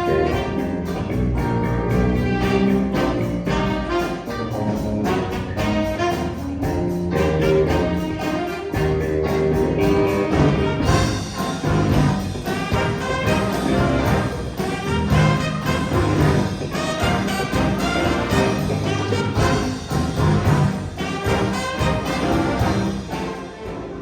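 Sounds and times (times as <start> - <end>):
bass guitar: 0.0 - 23.4
piano: 0.0 - 24.0
saxophone ensemble playing jazz: 0.0 - 24.0.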